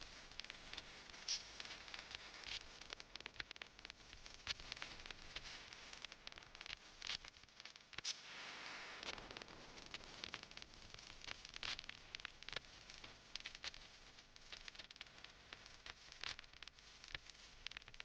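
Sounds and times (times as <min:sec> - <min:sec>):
soft hiss: 0:00.0 - 0:18.0.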